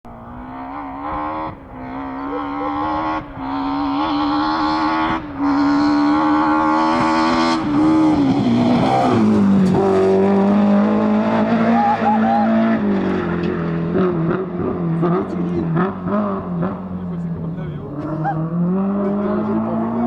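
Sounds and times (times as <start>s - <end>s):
rally car engine accelerating: 0.1s - 20.0s.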